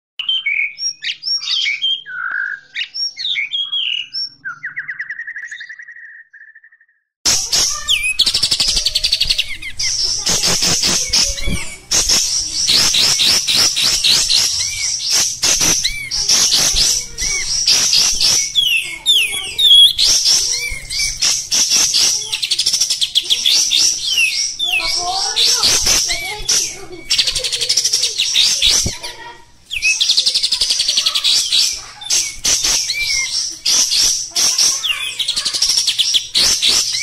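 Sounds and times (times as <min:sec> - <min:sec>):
bird whistled notes: 0:00.2 - 0:29.0, 0:29.7 - 0:37.0
bulbul singing chatter: 0:00.2 - 0:37.0.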